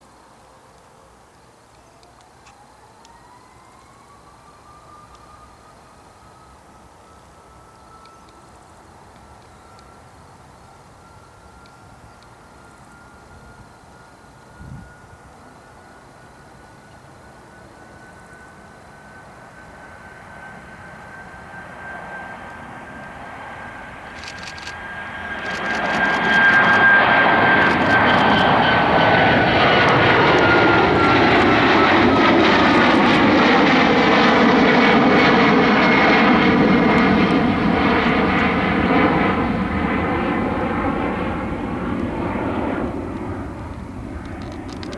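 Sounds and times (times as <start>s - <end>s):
jetliner taking off: 2.0s - 44.9s.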